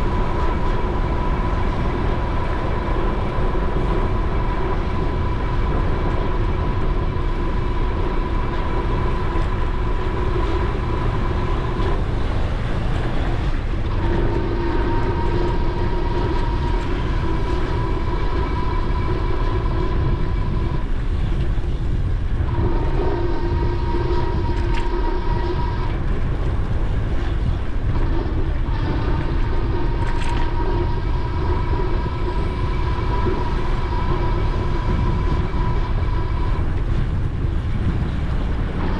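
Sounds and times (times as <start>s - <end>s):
electric bike motor whining: 0.0s - 38.9s
wind rumble on microphone: 0.0s - 38.9s.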